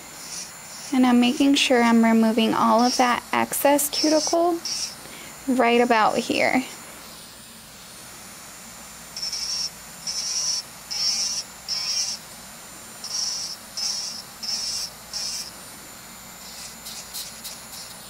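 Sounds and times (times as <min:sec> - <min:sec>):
electric nail file grinding: 0:00.0 - 0:18.0.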